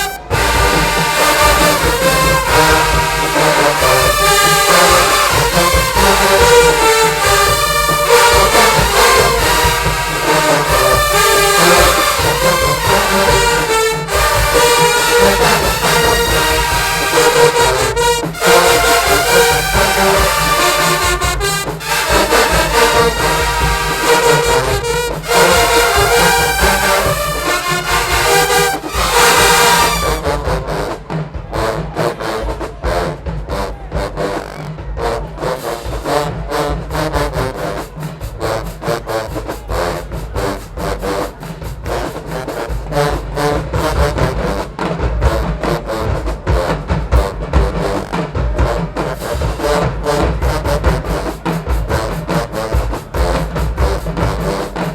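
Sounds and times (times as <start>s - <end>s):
drumline beats: 0.0s - 54.9s
marching band brass: 0.0s - 54.9s.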